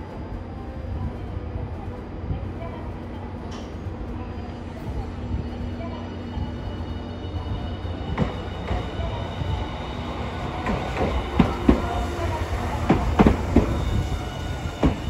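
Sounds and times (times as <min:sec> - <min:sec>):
tram running rumble: 0:00.0 - 0:15.0.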